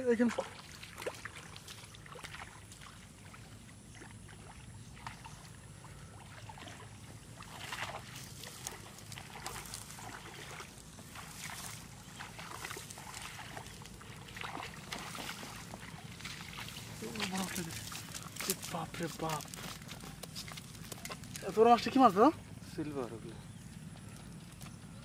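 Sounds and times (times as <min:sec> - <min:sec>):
water splashing and dripping: 0:00.0 - 0:21.4.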